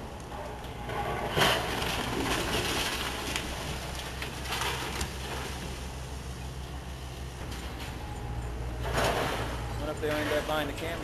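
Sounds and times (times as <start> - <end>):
excavator diesel engine: 0.0 - 11.0
street traffic passing: 0.0 - 11.0.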